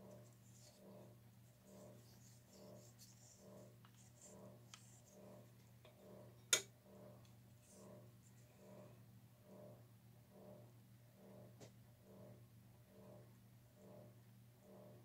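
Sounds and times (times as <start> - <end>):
faint pulsing low hum: 0.0 - 15.0.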